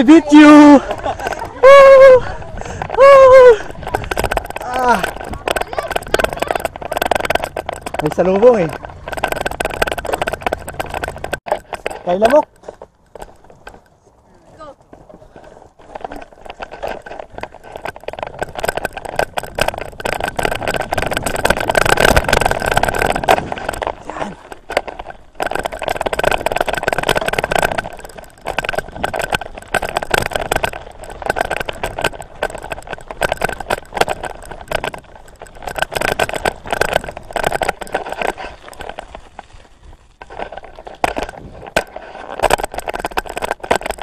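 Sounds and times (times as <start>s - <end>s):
bicycle tyres crackling on gravel: 0.0s - 44.0s
wind buffeting microphone: 0.0s - 44.0s.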